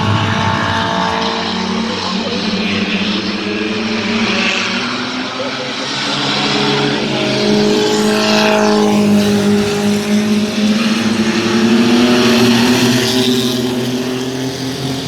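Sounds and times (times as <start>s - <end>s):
racing truck engines droning: 0.0s - 15.0s
truck passing by: 0.0s - 15.0s.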